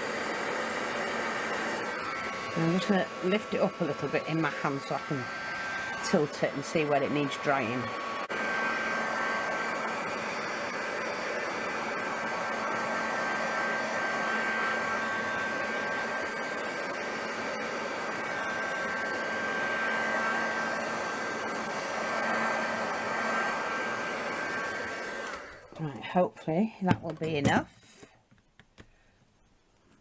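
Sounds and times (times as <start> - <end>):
heat gun blowing air: 0.0 - 25.8.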